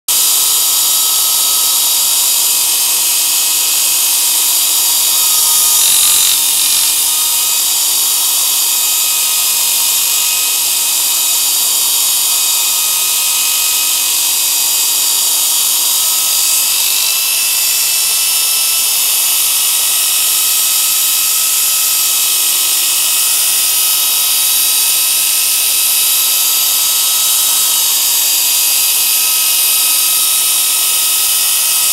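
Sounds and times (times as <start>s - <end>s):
belt file grinding metal: 0.1s - 31.9s.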